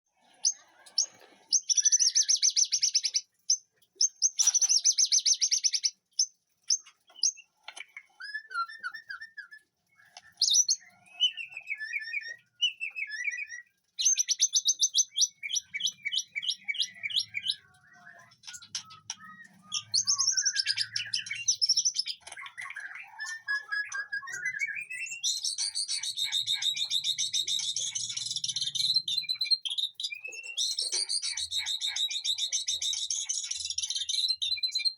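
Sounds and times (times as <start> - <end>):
songbird trilling and whistling: 0.4 - 34.9.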